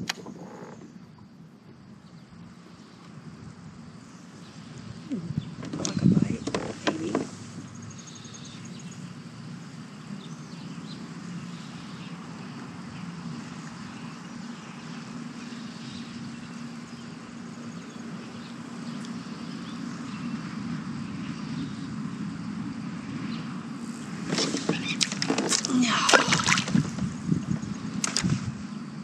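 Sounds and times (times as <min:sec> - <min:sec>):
low motor hum: 0:00.0 - 0:29.0.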